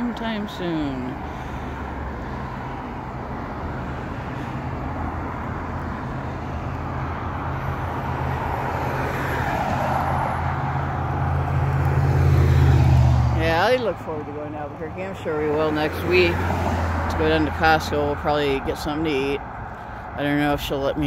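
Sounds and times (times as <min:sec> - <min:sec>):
approaching vehicle engine hum: 0:00.0 - 0:21.0
road traffic: 0:00.0 - 0:21.0.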